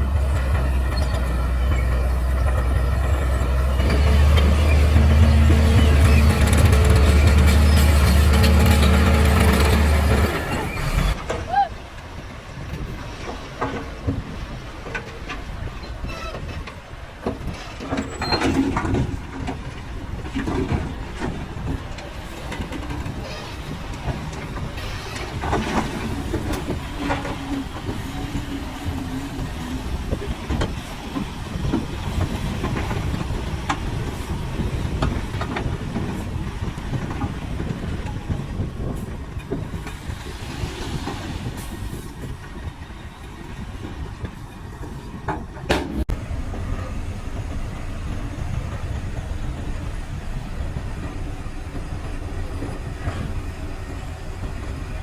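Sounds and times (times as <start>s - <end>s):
bulldozer diesel engine: 0.0s - 55.0s
metallic clanks of tracks: 0.0s - 55.0s.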